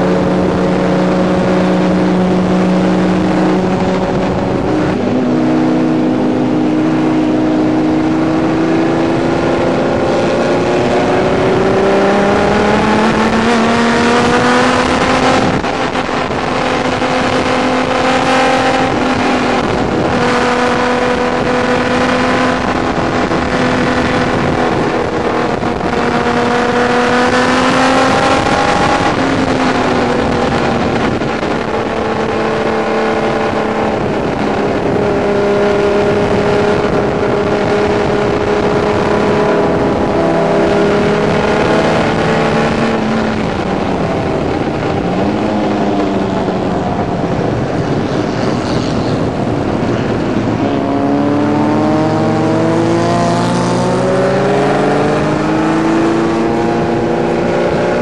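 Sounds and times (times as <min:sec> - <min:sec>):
racing car engine accelerating: 0:00.0 - 0:58.0
wind rushing: 0:00.0 - 0:58.0.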